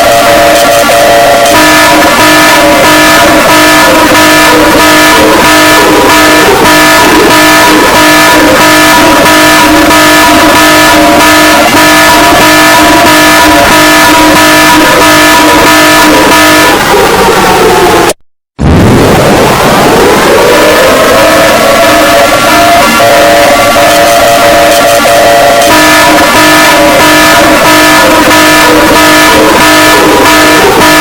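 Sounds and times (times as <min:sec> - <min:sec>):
distorted emergency alert alarm: 0:00.0 - 0:31.0.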